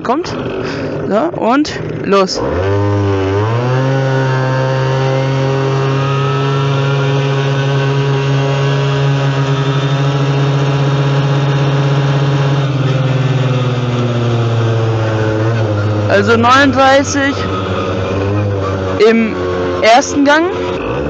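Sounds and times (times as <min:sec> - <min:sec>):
quad engine at full throttle: 0:00.0 - 0:21.0.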